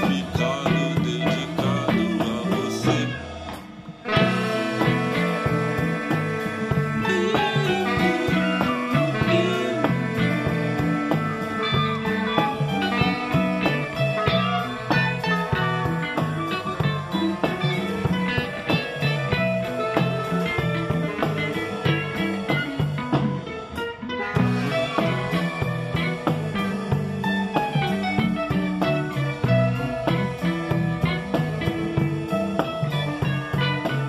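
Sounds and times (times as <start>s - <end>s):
electric guitar lines: 0.0s - 34.0s
steady drum beat: 0.0s - 34.0s
repeating bass figure: 4.0s - 23.0s, 24.1s - 34.0s.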